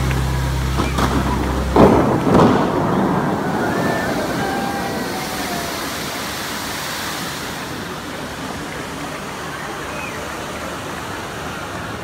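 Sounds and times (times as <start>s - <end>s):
fountain spray falling into water: 0.0s - 12.0s.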